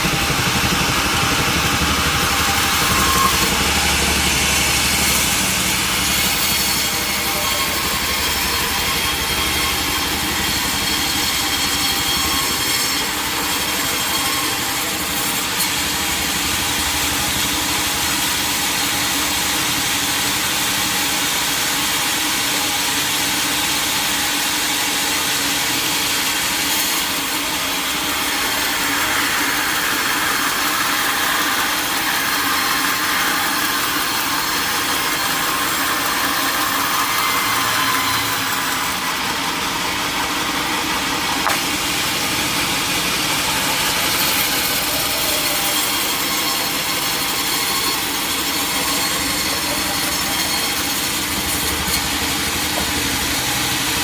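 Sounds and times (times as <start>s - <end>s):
sawmill saw cutting timber: 0.0s - 54.0s.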